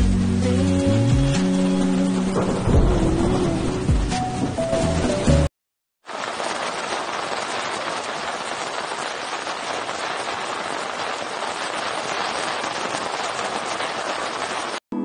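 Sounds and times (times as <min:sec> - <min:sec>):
heavy rain on hard surfaces: 0:00.0 - 0:14.8.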